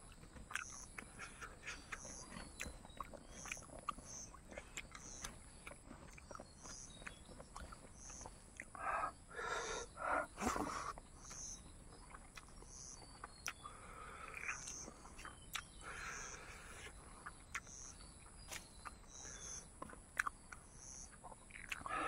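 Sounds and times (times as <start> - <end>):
close-miked chewing: 0.0 - 22.0
mouth clicks: 0.1 - 22.0.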